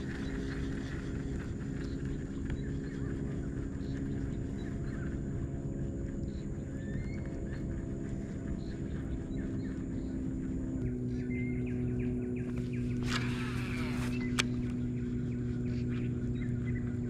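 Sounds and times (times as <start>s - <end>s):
birds chirping: 0.0s - 17.0s
low motor hum: 0.0s - 17.0s.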